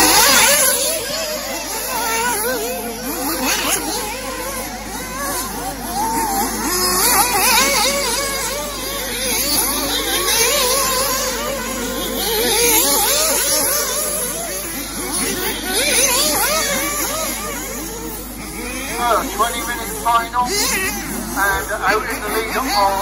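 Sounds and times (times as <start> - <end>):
rc car engines buzzing: 0.0 - 23.0.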